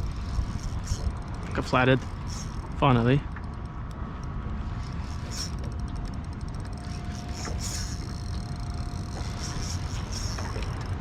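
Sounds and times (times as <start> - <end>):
wind and water rumbling: 0.0 - 11.0.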